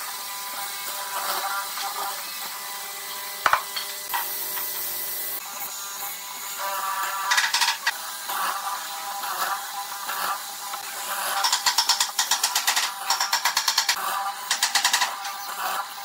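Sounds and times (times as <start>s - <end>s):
mortiser chisel cutting wood: 0.0s - 16.0s.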